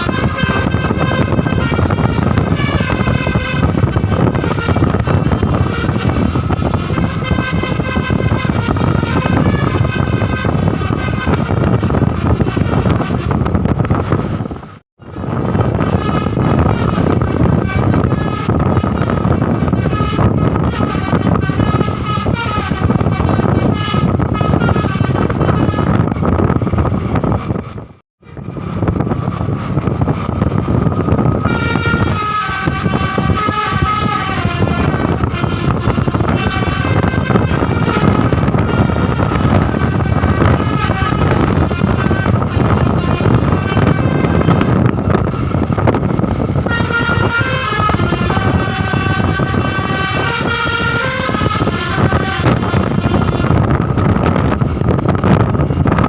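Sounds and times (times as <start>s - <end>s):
multi-tone musical bus horn: 0.0s - 56.0s
vehicle rumble: 0.0s - 56.0s.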